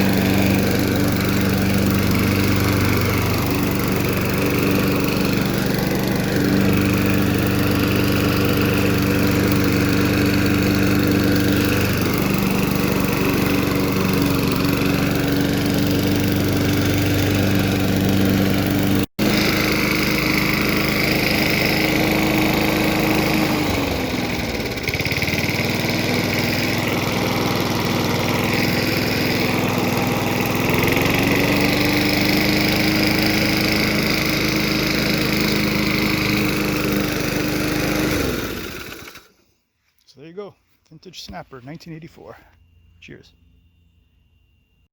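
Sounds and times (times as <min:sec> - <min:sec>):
lawn mower engine running: 0:00.0 - 0:39.4.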